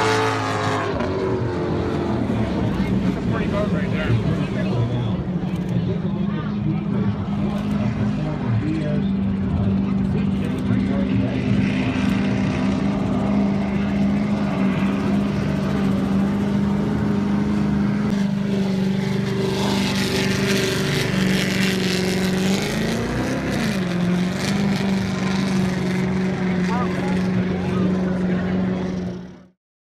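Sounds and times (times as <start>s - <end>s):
powerboat engines droning: 0.0s - 29.5s.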